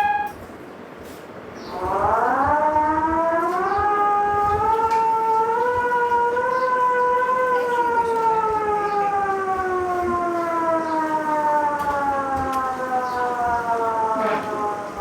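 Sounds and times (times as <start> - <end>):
siren winding down: 0.0 - 0.4, 1.7 - 15.0.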